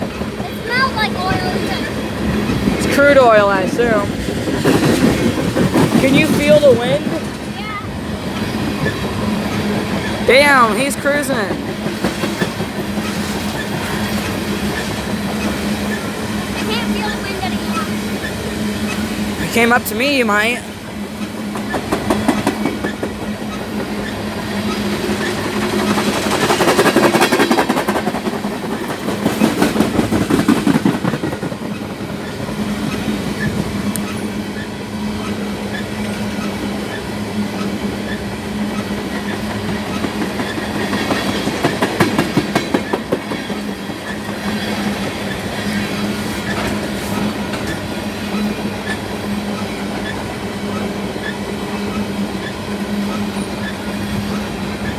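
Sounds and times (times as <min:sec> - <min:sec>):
steel wheels clattering on rails: 0:00.0 - 0:54.9.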